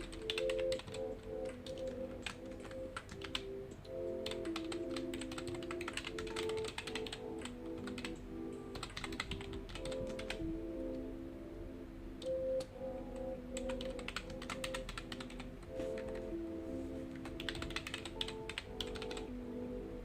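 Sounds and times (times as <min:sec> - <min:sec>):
typing on computer keyboard: 0:00.0 - 0:10.4, 0:12.2 - 0:16.3, 0:17.2 - 0:19.3
soft background music: 0:00.0 - 0:20.0.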